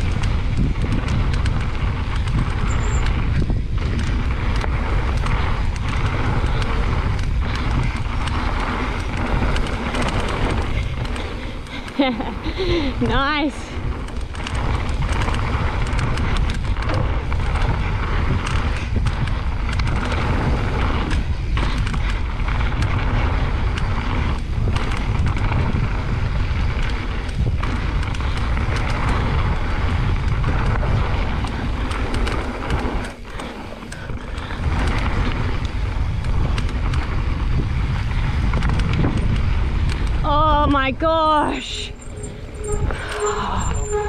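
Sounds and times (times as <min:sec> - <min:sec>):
bike rattling and knocking: 0:00.0 - 0:44.0
tyres rolling on dirt: 0:00.0 - 0:44.0
wind buffeting microphone: 0:00.0 - 0:44.0.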